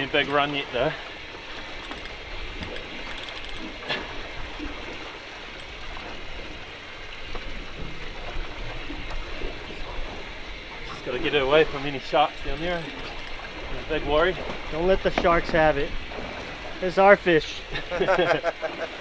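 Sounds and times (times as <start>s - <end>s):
sea water sloshing along hull: 0.0s - 19.0s.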